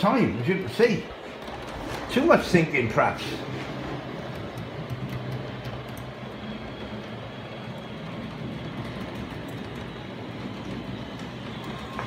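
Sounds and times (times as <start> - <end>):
model train motors humming: 0.0 - 12.0.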